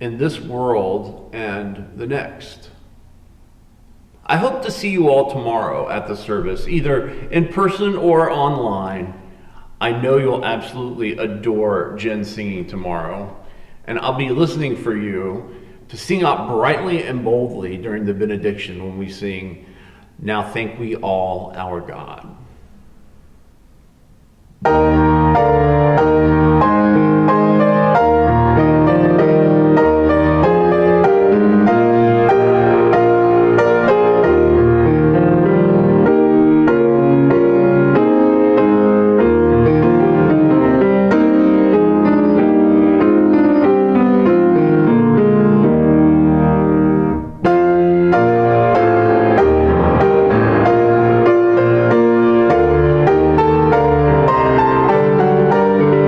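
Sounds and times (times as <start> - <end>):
piano music: 0.0 - 18.2, 20.3 - 56.0.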